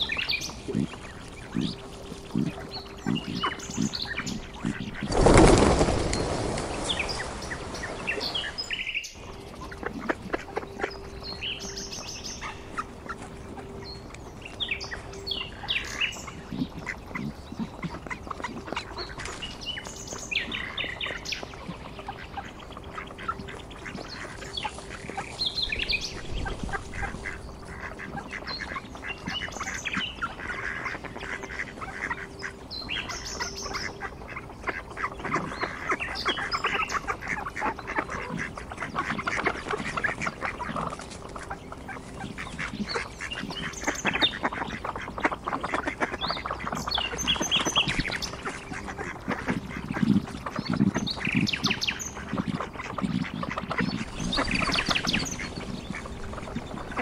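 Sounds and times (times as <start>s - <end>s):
ducks calling: 0.0s - 57.0s.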